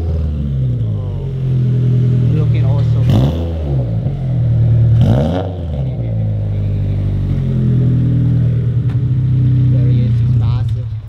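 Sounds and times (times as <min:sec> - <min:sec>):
car engine idling loudly: 0:00.0 - 0:11.0.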